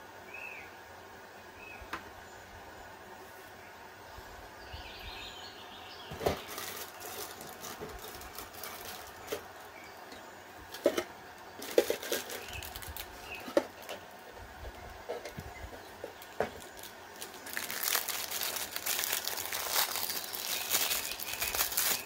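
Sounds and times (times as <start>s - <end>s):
low background hiss: 0.0s - 22.0s.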